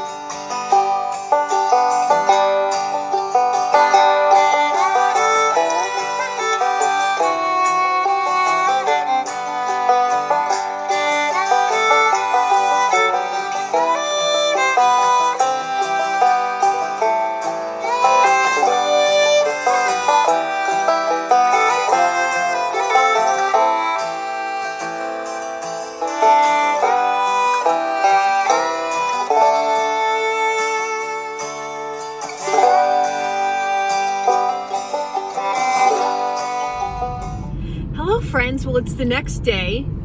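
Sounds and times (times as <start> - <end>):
banjo: 0.0 - 39.4
fiddle: 0.0 - 40.0.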